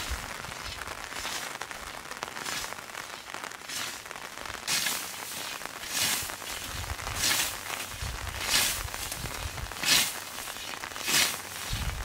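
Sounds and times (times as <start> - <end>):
scythe swishing through wet grass: 0.0 - 1.5, 2.4 - 12.0
rain pattering: 0.0 - 12.0.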